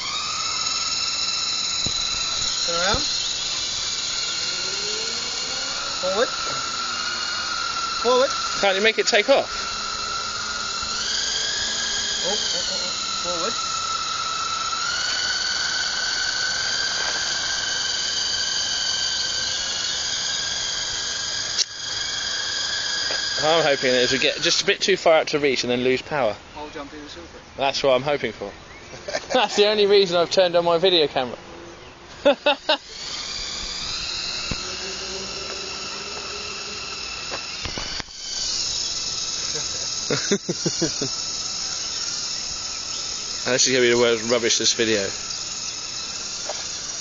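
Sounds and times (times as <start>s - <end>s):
toy helicopter motor whine: 0.0s - 47.0s.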